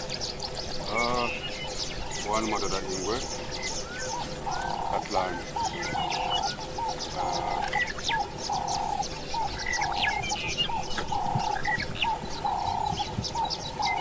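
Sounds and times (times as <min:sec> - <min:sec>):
high bird chirps: 0:00.0 - 0:14.0
low bird call: 0:00.0 - 0:14.0.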